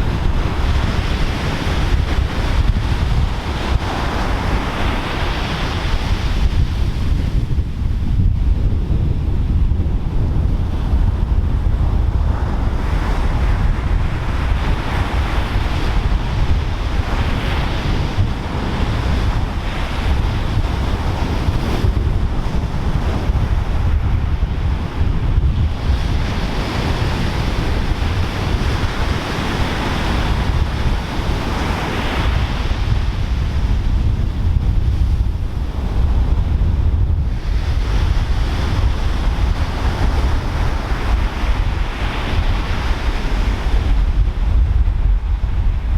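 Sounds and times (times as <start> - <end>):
surf breaking and washing ashore: 0.0 - 45.9
wind buffeting microphone: 0.0 - 45.9.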